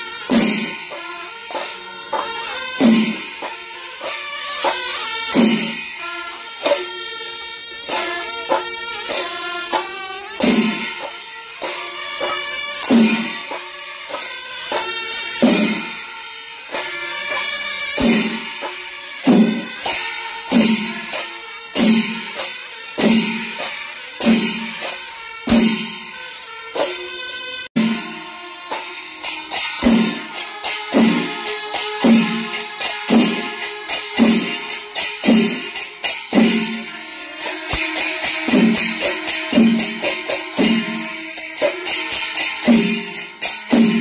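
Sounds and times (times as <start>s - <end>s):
clashing cymbals: 0.0s - 44.0s
drums pounded: 0.3s - 3.7s, 4.6s - 5.9s, 7.9s - 16.0s, 16.8s - 26.2s, 27.8s - 36.9s, 37.5s - 44.0s.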